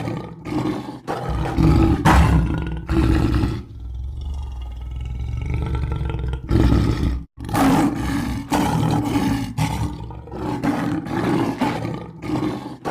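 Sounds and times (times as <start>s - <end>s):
lion roaring: 0.0s - 12.9s.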